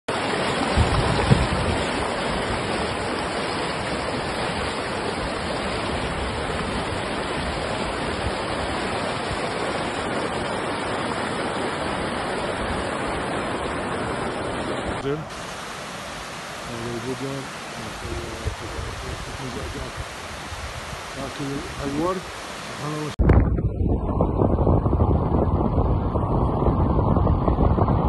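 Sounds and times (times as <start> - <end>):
stream rushing over rocks: 0.1 - 23.2.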